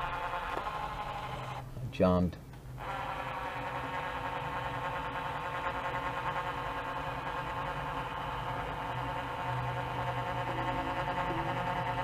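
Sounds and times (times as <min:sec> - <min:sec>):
caulking gun motor humming: 0:00.0 - 0:01.6, 0:02.8 - 0:12.0.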